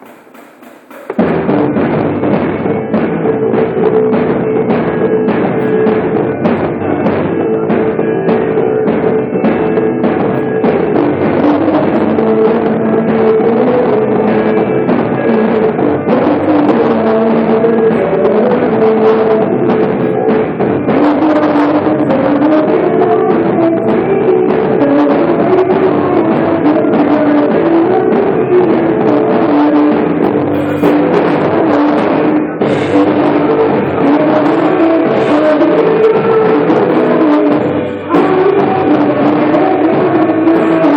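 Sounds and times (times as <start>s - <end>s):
rock band instrumental: 0.0s - 40.9s.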